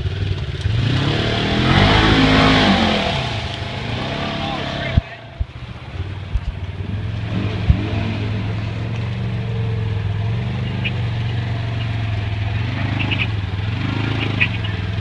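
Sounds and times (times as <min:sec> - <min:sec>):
utility vehicle engine running: 0:00.0 - 0:15.0.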